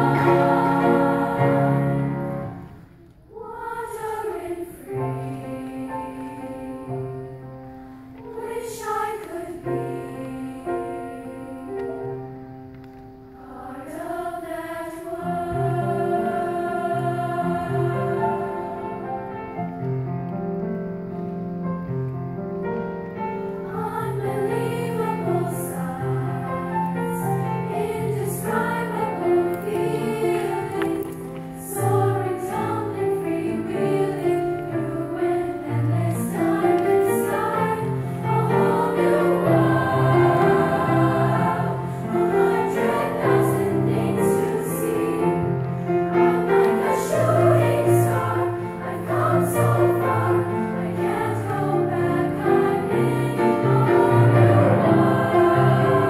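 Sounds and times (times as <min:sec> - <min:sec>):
girls choir singing in harmony: 0:00.0 - 0:56.0
grand piano: 0:00.0 - 0:56.0.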